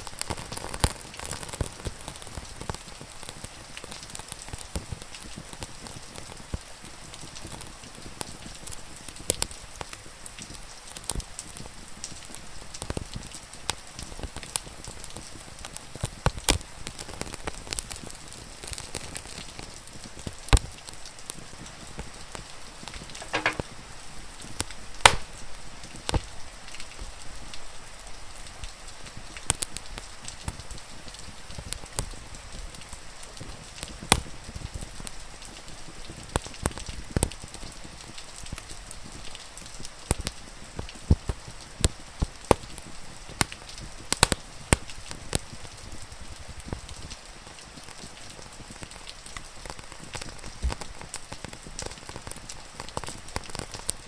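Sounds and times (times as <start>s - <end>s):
wood fire crackling and popping: 0.0s - 27.6s, 28.3s - 54.0s
rain hissing: 0.0s - 54.0s.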